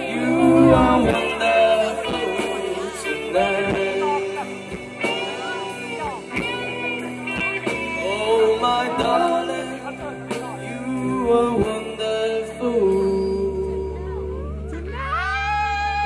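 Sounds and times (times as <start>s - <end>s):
drum kit: 0.0s - 13.3s
electric guitars: 0.0s - 16.0s
keyboard: 0.0s - 16.0s.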